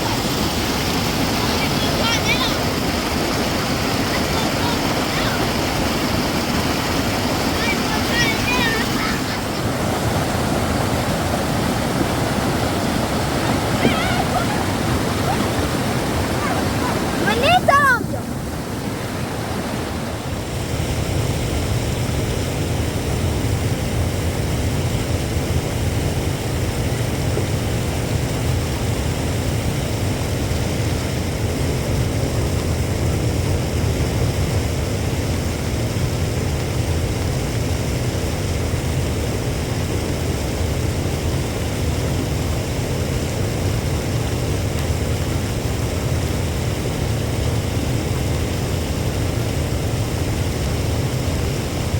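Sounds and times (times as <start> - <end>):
heavy rain hiss: 0.0 - 51.9
wind buffeting microphone: 0.0 - 51.9.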